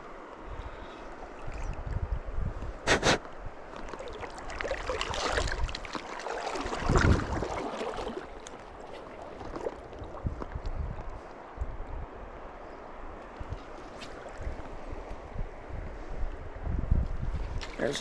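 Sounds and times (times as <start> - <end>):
stream water gurgling: 0.0 - 15.7
wind rumbling on microphone: 0.0 - 18.0.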